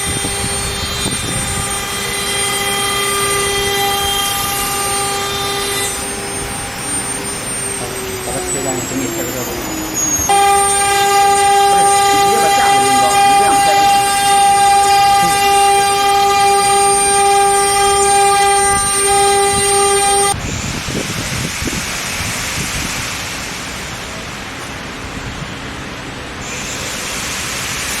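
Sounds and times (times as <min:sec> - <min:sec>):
router spindle high whine: 0:00.0 - 0:28.0.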